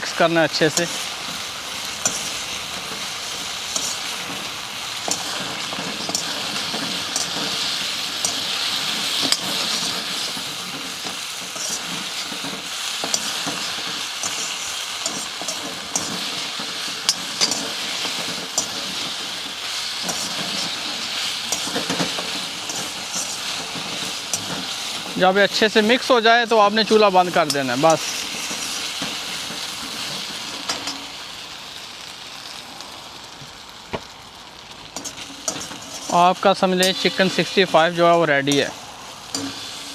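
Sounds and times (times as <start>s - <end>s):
chicken sizzling in a pan: 0.0s - 39.9s
utensil scraping against pan: 0.7s - 31.2s, 34.8s - 39.9s.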